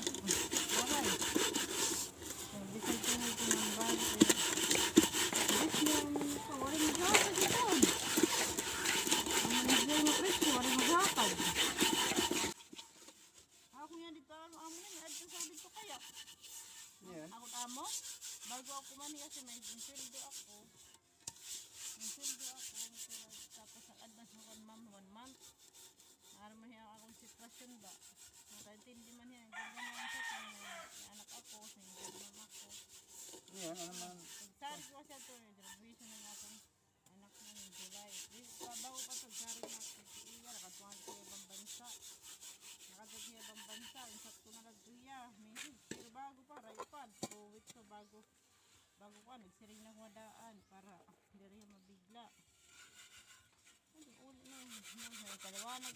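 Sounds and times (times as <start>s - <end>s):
scrubbing metal pot with powder: 0.0s - 45.0s, 52.2s - 55.9s.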